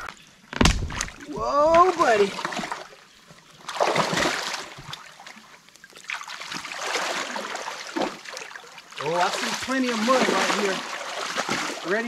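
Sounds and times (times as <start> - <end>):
creek water splashing: 0.7 - 12.0.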